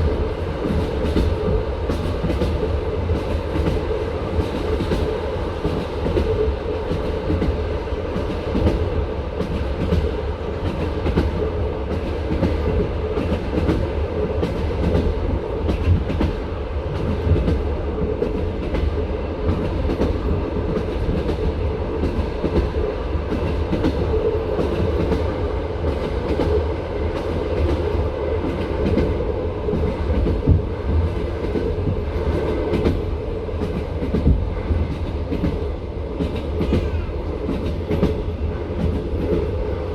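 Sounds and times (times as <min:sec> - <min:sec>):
train wheels clattering on track: 0:00.0 - 0:39.9.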